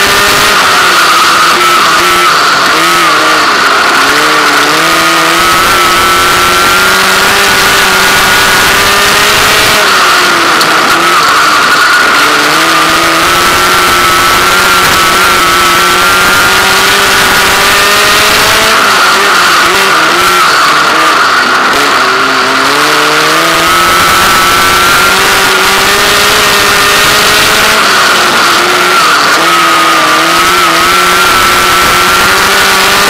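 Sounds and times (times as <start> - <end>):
race car engine at high revs: 0.0 - 33.0.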